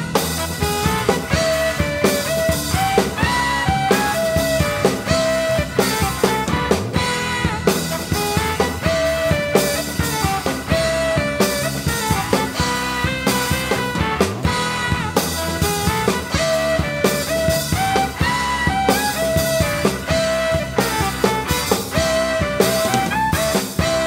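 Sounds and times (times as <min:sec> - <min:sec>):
backing track lead melody: 0:00.0 - 0:24.0
rock drum kit: 0:00.0 - 0:24.0.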